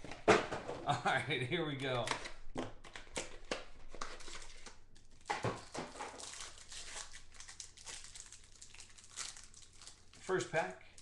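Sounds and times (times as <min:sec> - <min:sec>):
plastic wrapper crinkling and tearing: 0:02.0 - 0:11.0.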